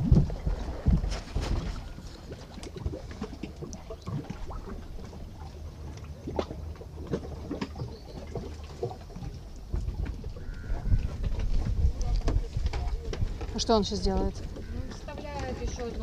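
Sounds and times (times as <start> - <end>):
wind rumble on microphone: 0.0 - 8.5, 9.1 - 16.0.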